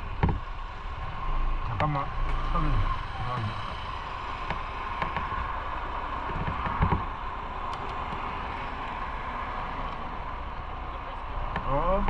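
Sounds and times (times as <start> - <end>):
wind noise on microphone: 0.0 - 11.7.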